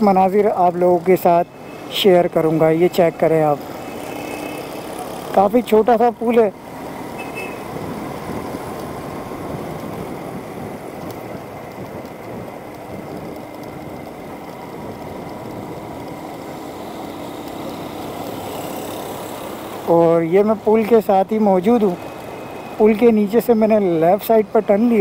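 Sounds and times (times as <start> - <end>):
tyre and road noise: 0.0 - 25.0
vehicle engine hum: 0.0 - 25.0.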